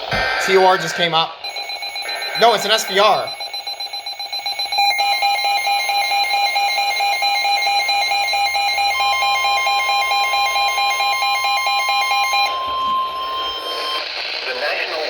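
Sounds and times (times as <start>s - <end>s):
steady single-pitch alarm tone: 0.0s - 14.3s
warbling electronic alarm beeping: 0.0s - 14.3s.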